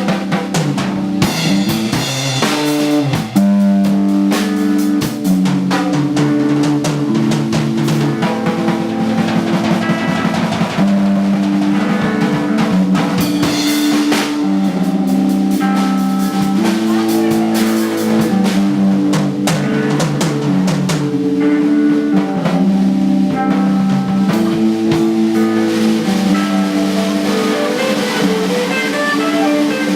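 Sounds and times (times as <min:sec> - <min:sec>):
drum kit: 0:00.0 - 0:29.9
guitar and bass: 0:00.0 - 0:29.9.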